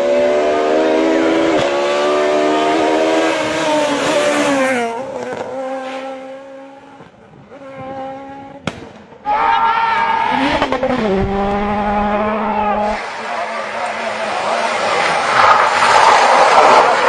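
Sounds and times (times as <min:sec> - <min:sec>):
rally car engine at high revs: 0:00.0 - 0:08.6, 0:10.1 - 0:17.0.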